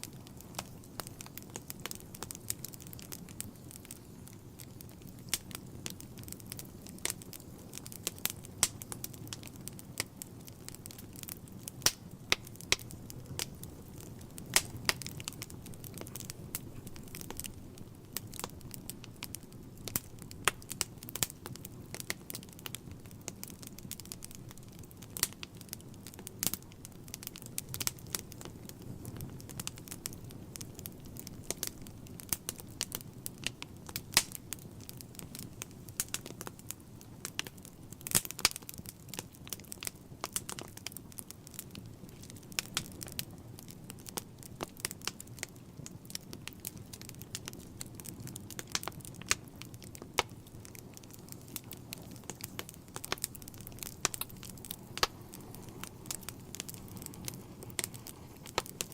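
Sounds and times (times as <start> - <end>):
fire crackling and popping: 0.0 - 58.9
low rush of flame: 0.0 - 58.9.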